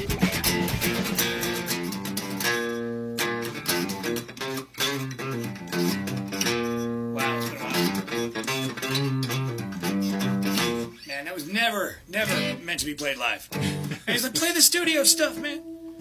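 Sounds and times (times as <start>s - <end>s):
funk guitar playing: 0.0s - 11.1s, 12.2s - 12.8s, 13.5s - 16.0s.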